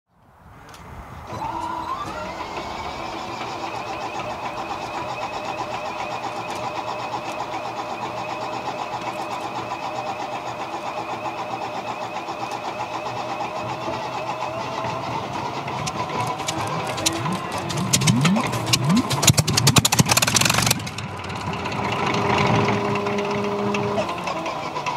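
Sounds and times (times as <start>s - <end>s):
engine compression pulsing: 1.2s - 24.9s
starter motor whine: 1.2s - 24.9s.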